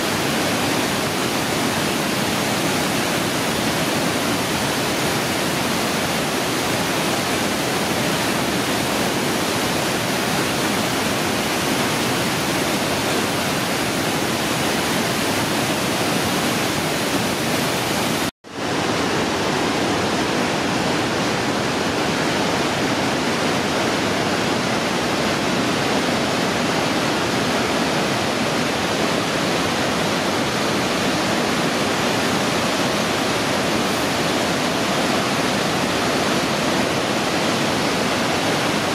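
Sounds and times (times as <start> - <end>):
water rushing over a waterfall: 0.0 - 38.9.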